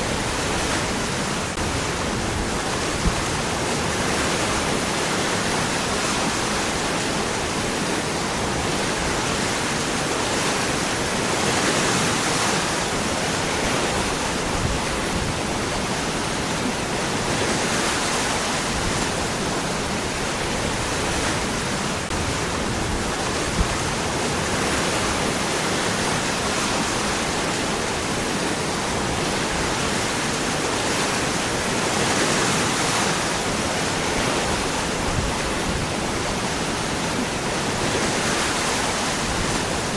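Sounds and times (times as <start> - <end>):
waterfall rushing among rocks: 0.0 - 39.9.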